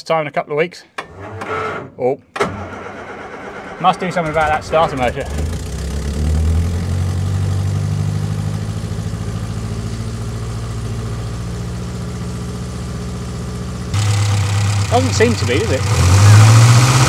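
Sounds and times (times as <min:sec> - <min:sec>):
van engine idling: 0:02.6 - 0:17.0.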